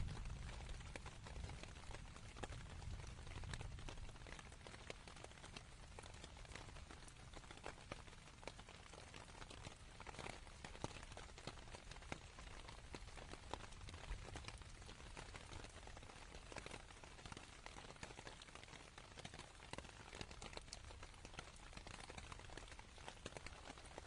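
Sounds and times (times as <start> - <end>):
rain on a tent: 0.0 - 24.0
raindrops ticking on fabric: 0.0 - 24.0.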